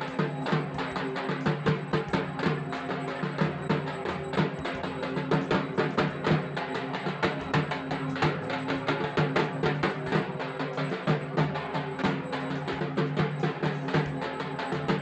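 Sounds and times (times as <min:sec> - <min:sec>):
rhythmic drumming: 0:00.0 - 0:15.0.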